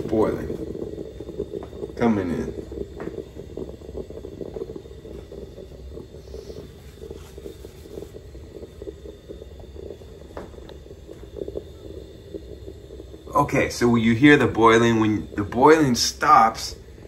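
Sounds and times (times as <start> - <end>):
moka pot gurgling and bubbling: 0.0 - 17.0.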